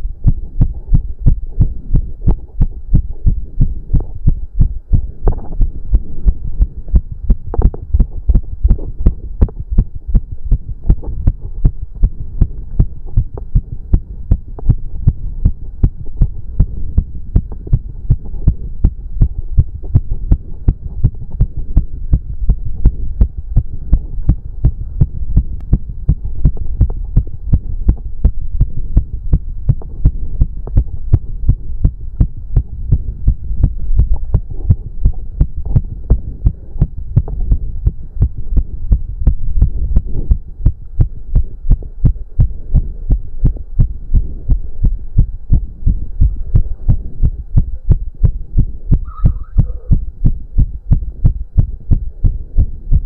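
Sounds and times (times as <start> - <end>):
low hum: 0.0 - 53.0
racing heartbeat thumps: 0.0 - 53.0.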